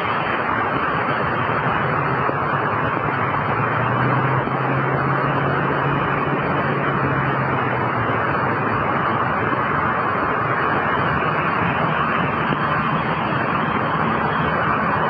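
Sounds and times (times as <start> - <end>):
engine humming: 0.0 - 15.0
tyres hissing on wet road: 0.0 - 15.0.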